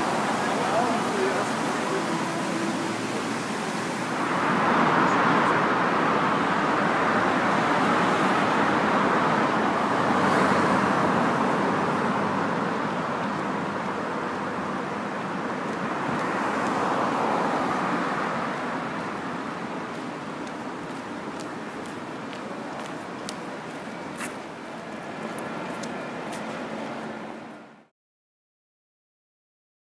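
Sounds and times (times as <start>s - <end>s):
passing cars: 0.0s - 27.9s.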